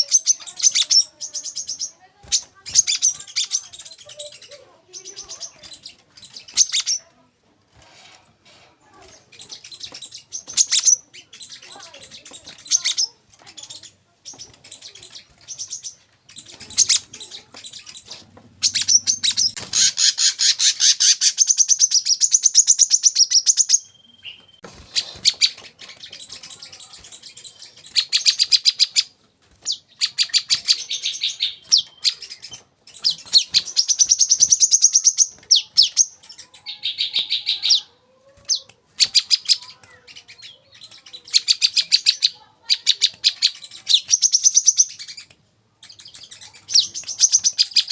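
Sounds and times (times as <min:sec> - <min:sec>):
sunbird singing rapid chattering song: 0:00.0 - 0:07.1, 0:09.2 - 0:37.9, 0:38.5 - 0:47.9.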